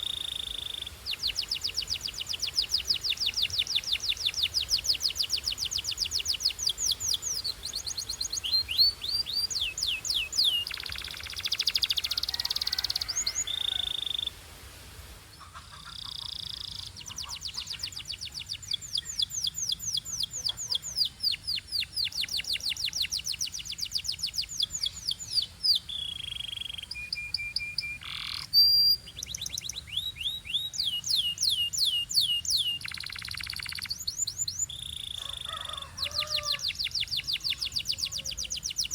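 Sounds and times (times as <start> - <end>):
canary singing: 0.0 - 14.4, 15.4 - 38.9.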